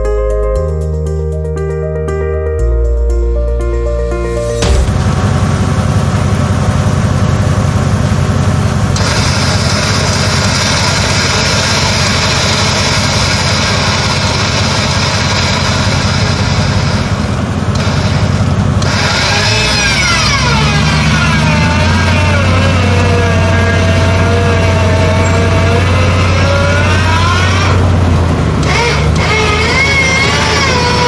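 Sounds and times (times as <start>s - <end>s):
vehicle engine running: 3.9s - 31.0s
wavering whine: 4.2s - 31.0s.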